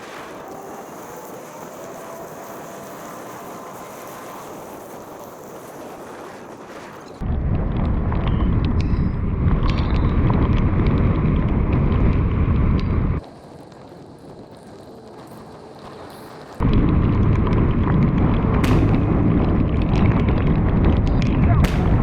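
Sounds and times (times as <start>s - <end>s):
storm wind on microphone: 0.0s - 22.0s.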